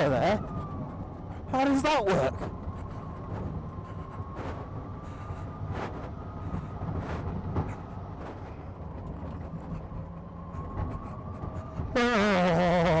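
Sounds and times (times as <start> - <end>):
loud electric car whine: 0.0 - 13.0
tyres and wind rumble: 0.0 - 13.0.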